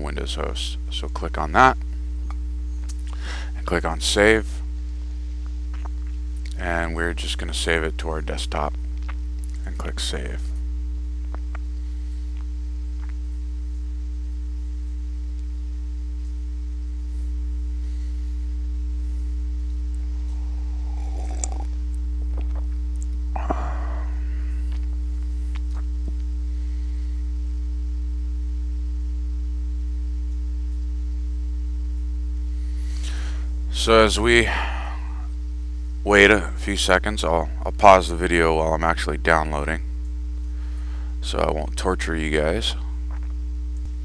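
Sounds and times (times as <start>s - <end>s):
electrical mains hum: 0.0s - 44.0s.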